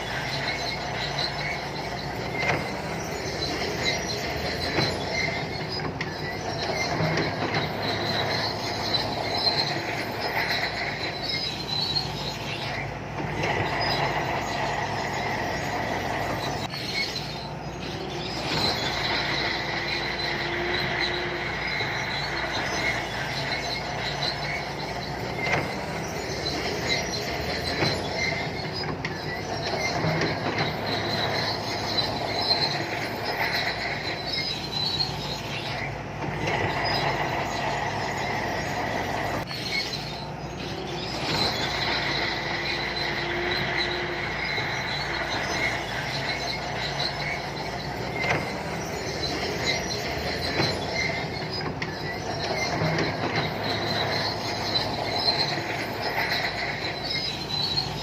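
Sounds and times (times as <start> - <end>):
bulldozer diesel engine: 0.0 - 58.0
steel tracks squealing: 0.0 - 58.0.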